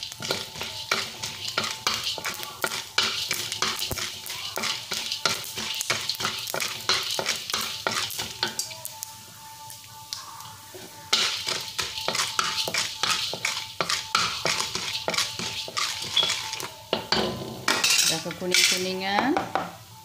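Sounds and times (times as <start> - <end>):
wooden spatula scraping wok: 0.0 - 8.7, 10.7 - 19.2
oil sizzling: 0.0 - 20.0.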